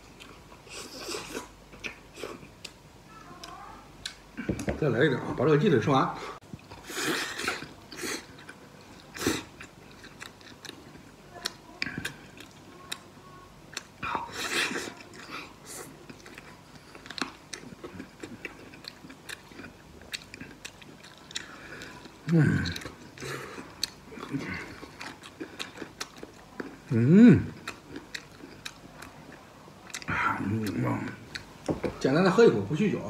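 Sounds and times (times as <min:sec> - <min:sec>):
man chewing meat: 0:00.0 - 0:04.7, 0:06.4 - 0:32.0.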